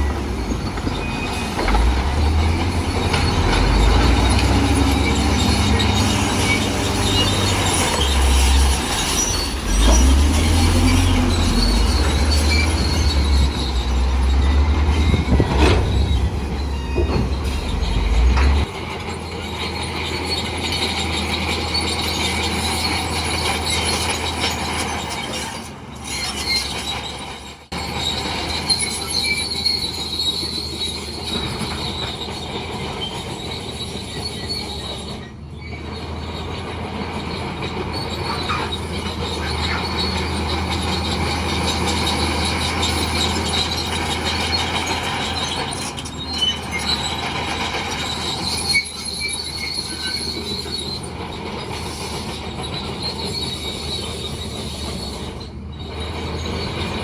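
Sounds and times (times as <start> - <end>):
diesel engine drone: 0.0 - 24.8, 34.2 - 57.0
steel tracks squealing: 0.0 - 57.0.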